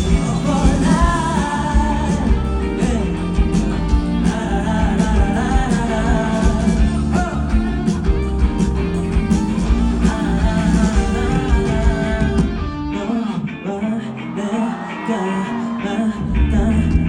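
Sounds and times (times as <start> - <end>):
drums: 0.0 - 13.6, 16.2 - 17.0
electric guitar: 0.0 - 17.0.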